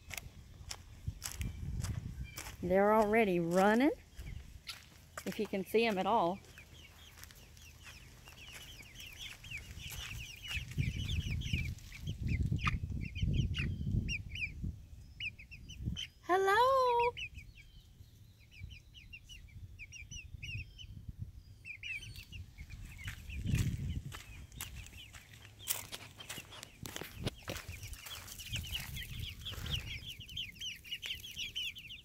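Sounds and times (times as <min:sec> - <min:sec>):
young chickens peeping: 0:00.0 - 0:32.0.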